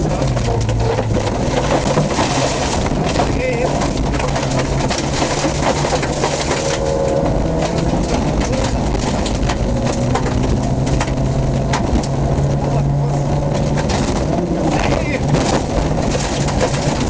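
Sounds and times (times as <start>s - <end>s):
car body rattling and knocking: 0.0s - 17.0s
car engine running under load: 0.0s - 17.0s.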